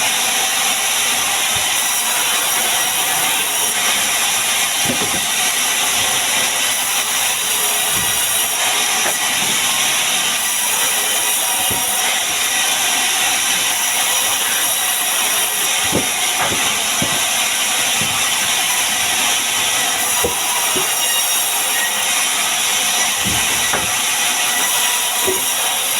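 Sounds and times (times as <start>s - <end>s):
power tool whirring on wood: 0.0s - 25.9s.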